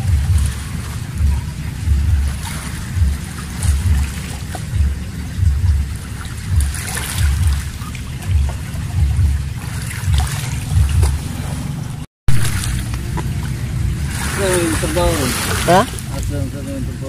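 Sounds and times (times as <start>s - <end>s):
shallow water lapping: 0.0s - 17.0s
wind buffeting microphone: 0.0s - 17.0s.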